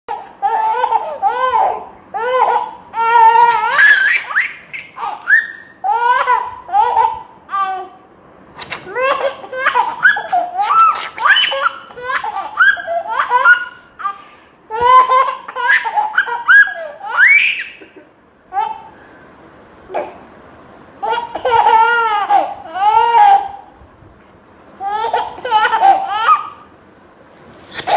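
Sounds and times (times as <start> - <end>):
baby laughing: 0.1 - 8.0, 8.6 - 18.9, 21.0 - 23.6, 24.8 - 26.6, 27.7 - 27.9.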